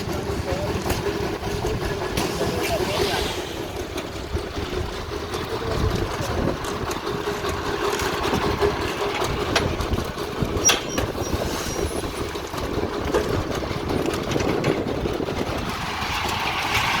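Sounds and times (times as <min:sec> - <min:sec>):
engine running: 0:00.0 - 0:17.0
engine ticks and knock: 0:00.0 - 0:17.0.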